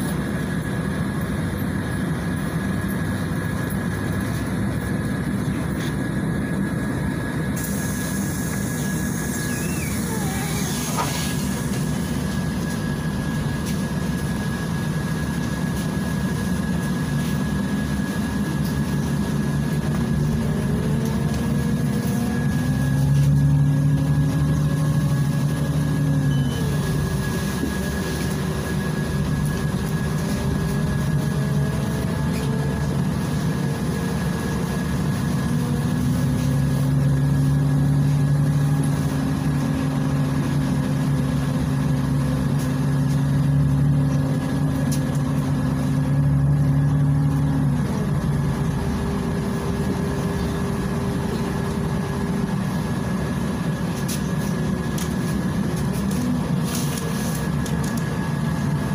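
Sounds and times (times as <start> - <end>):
bus engine drone: 0.0 - 58.9
road noise: 0.0 - 58.9.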